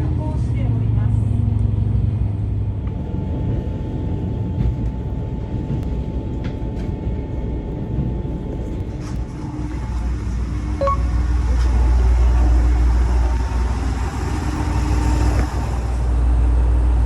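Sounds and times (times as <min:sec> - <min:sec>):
low engine hum: 0:00.0 - 0:17.0
railcar running rumble: 0:00.0 - 0:17.0.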